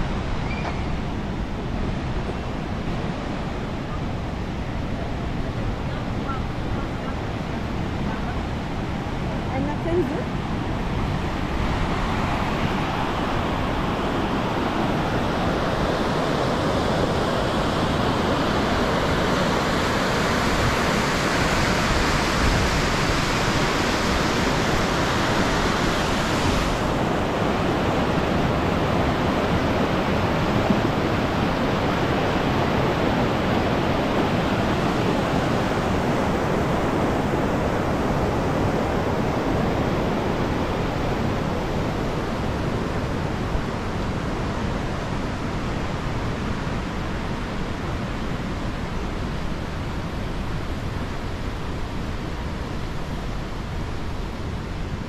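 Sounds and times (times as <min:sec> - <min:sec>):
rushing river water: 0:00.0 - 0:55.0.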